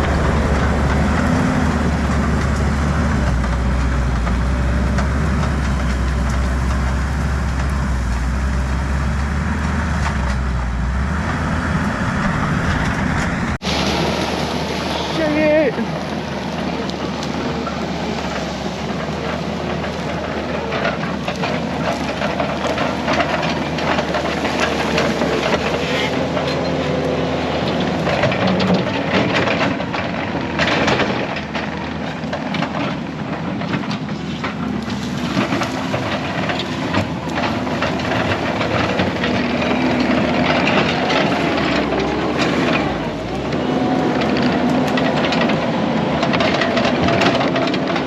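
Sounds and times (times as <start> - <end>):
branches cracking and snapping: 0.0 - 48.0
diesel engine under load: 0.0 - 48.0.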